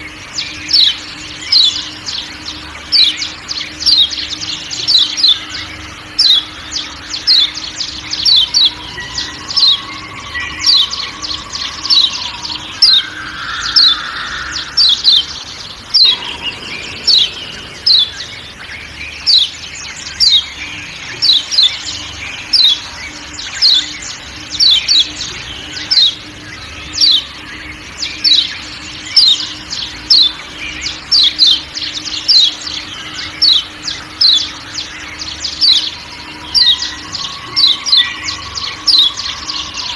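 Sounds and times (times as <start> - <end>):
bird sharp chirping calls: 0.0 - 39.9
faint steady hum: 0.0 - 39.9
soft background bird calls: 0.0 - 39.9.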